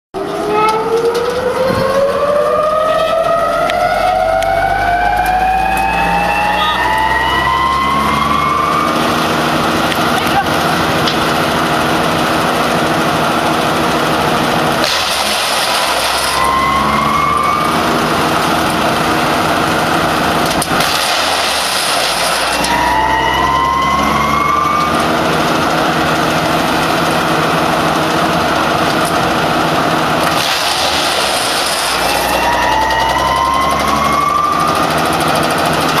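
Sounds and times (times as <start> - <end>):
wood chipper chipping logs: 3.0 - 36.0.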